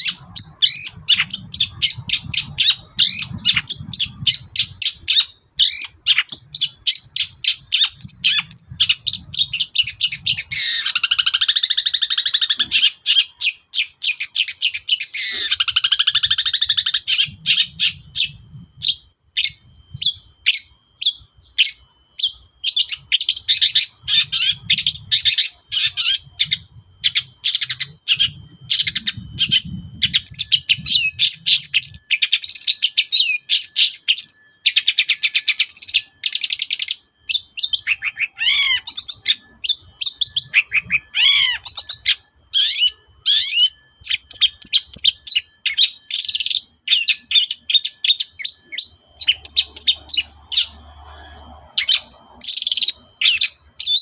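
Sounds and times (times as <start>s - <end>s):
bird singing rapid chirps and trills: 0.0s - 54.0s.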